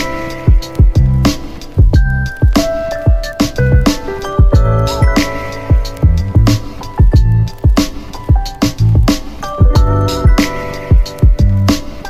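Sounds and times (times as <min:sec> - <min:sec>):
sharp percussive ticks: 0:00.0 - 0:12.0
deep punchy kick drum: 0:00.5 - 0:11.8.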